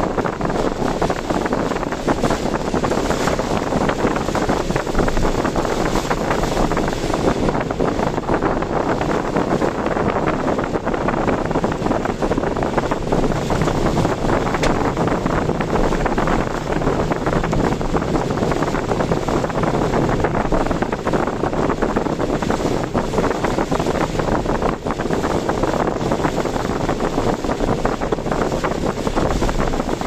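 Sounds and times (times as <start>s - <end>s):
car road noise: 0.0s - 30.0s
wind rushing on microphone: 0.0s - 30.0s.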